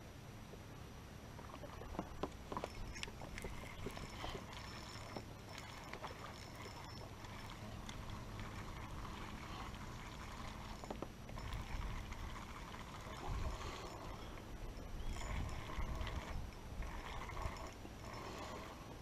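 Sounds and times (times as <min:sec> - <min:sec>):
water lapping around boat: 0:01.1 - 0:19.0.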